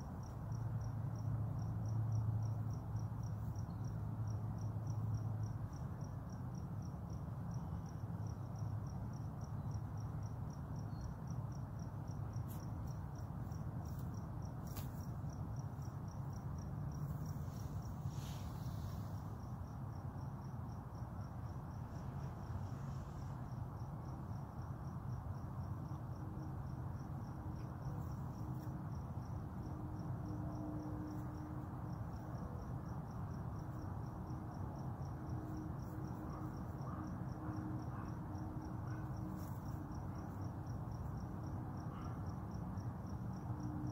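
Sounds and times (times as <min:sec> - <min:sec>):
cricket chirping: 0:00.0 - 0:43.9.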